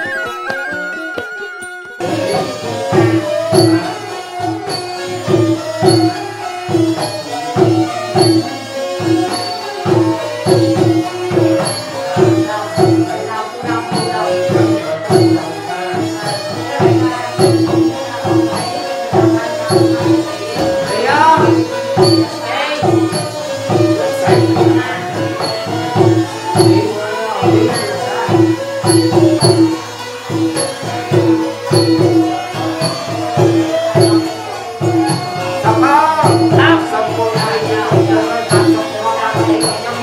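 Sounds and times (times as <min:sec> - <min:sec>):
hand drums: 0:00.0 - 0:40.0
melody with gliding notes: 0:00.0 - 0:40.0.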